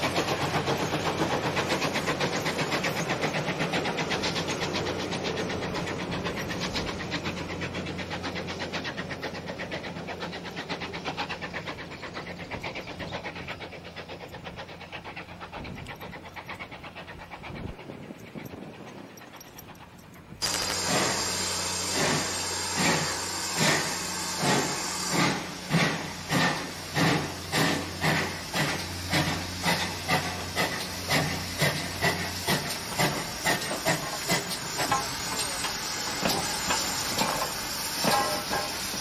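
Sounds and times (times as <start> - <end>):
steam hissing: 0.0 - 19.8, 20.4 - 39.0
steam locomotive exhaust beats: 0.0 - 39.0.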